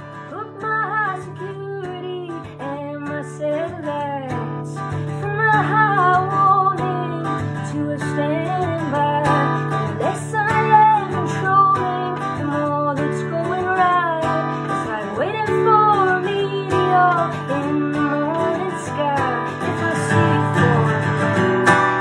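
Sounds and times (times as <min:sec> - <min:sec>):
strummed acoustic guitar: 0:00.0 - 0:22.0
woman singing: 0:00.0 - 0:22.0.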